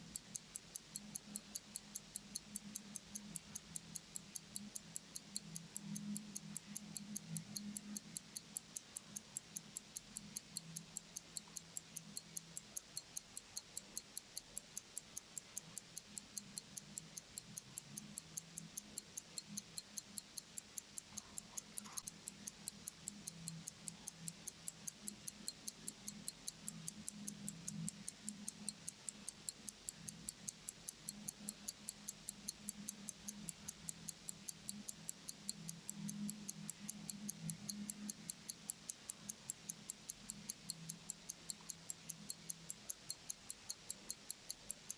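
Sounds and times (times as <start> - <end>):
pocket watch ticking: 0.0 - 44.9.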